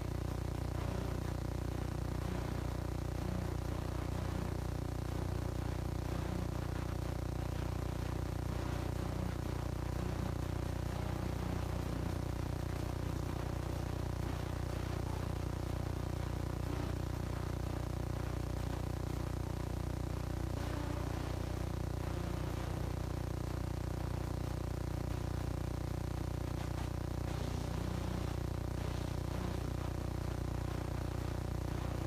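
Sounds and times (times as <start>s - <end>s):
low electrical mains hum: 0.0s - 32.0s.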